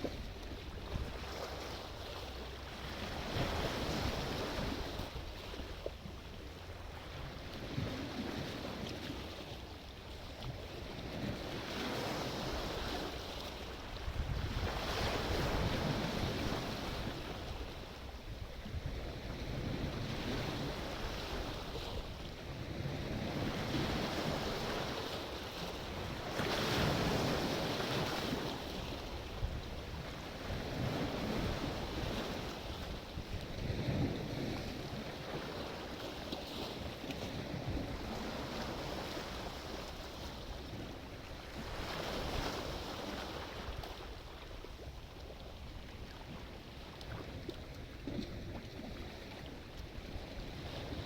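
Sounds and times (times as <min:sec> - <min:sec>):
sea waves breaking: 0:00.0 - 0:18.1, 0:19.0 - 0:51.0.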